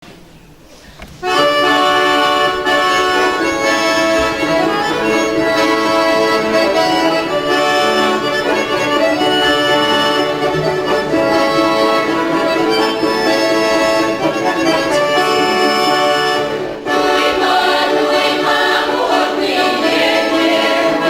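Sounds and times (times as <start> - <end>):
accordion playing: 0.5 - 21.0.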